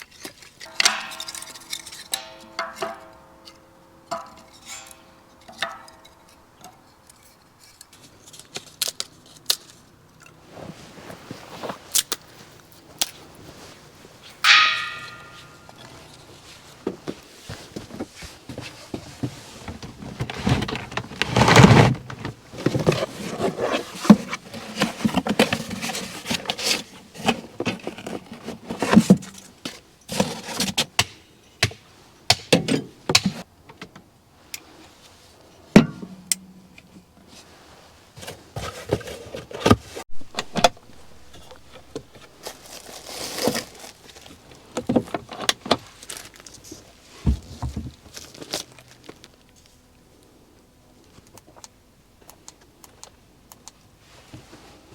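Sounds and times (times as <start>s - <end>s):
objects knocking and rustling: 0.0s - 34.0s, 38.1s - 49.2s.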